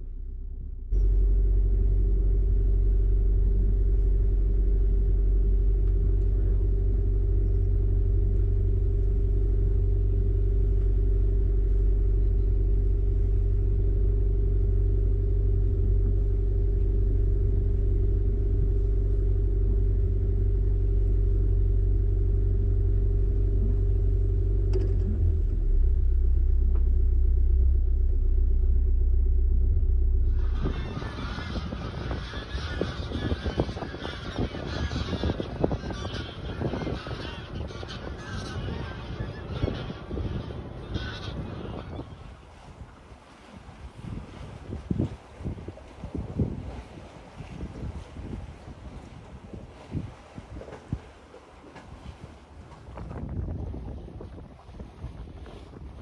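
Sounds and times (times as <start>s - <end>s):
boat engine rumbling: 0.0s - 56.0s
steady hum: 0.0s - 56.0s.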